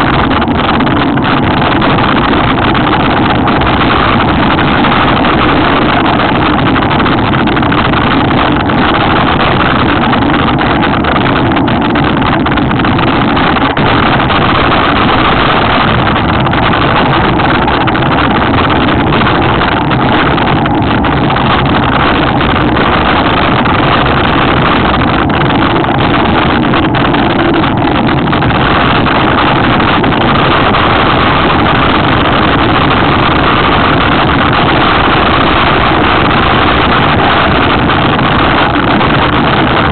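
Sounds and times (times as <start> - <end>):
rush of wind and tyres: 0.0 - 39.9.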